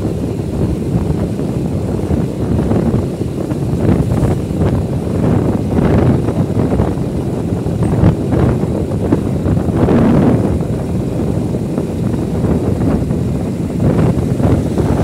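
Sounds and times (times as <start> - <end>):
motorbike running: 0.0 - 15.0
wind buffeting microphone: 0.0 - 15.0.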